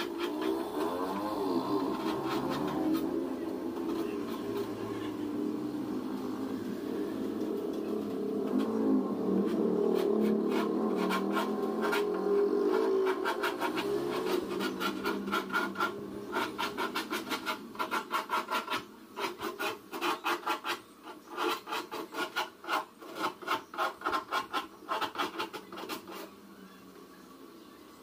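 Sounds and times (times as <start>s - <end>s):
hand file scraping laminate edge: 0.0s - 26.4s.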